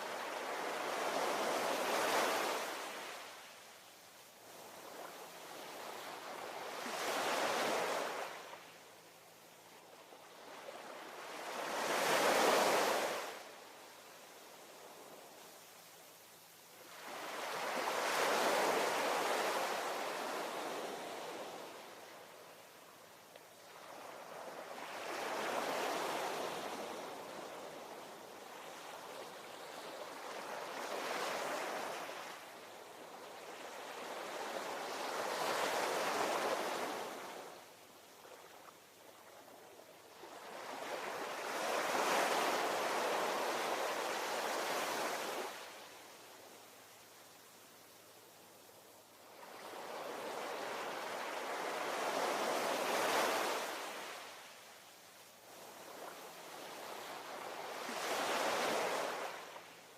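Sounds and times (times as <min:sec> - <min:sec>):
ocean waves breaking on shore: 0:00.0 - 0:03.6, 0:04.4 - 0:08.7, 0:10.2 - 0:13.6, 0:16.8 - 0:22.6, 0:23.6 - 0:37.6, 0:38.2 - 0:46.5, 0:49.3 - 0:54.6, 0:55.5 - 0:59.9.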